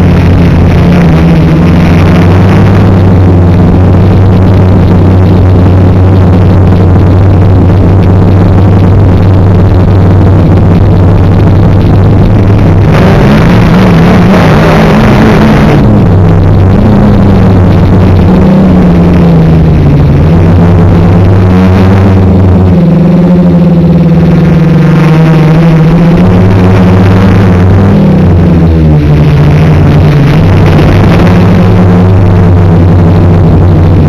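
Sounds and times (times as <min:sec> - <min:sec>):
drone motors and propellers droning: 0:00.0 - 0:34.0.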